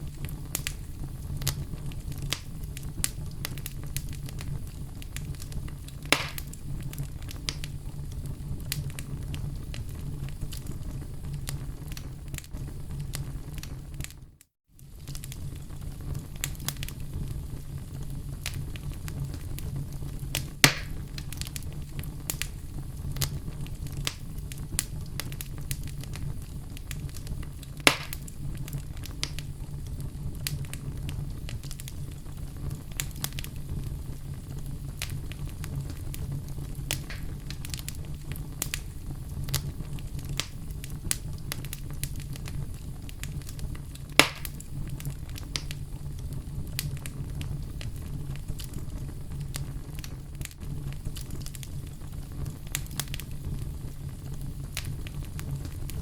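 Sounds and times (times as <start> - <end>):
sharp fire pops: 0.0 - 14.2, 14.8 - 56.0
wood fire crackling: 0.0 - 56.0.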